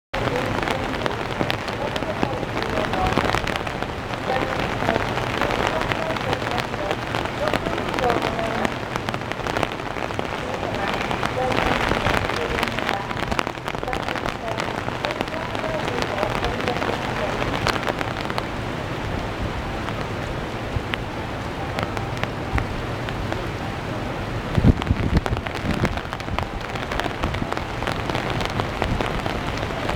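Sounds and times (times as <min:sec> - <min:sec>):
raindrops ticking close by: 0:00.1 - 0:29.9
steady rain falling: 0:00.1 - 0:29.9
faint voices: 0:00.2 - 0:29.9.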